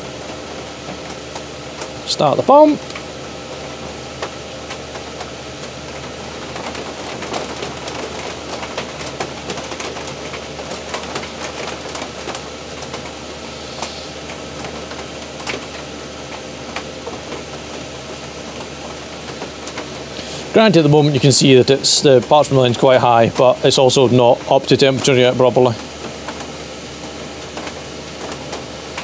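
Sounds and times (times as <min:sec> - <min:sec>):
air heater fan humming: 0:00.0 - 0:29.0.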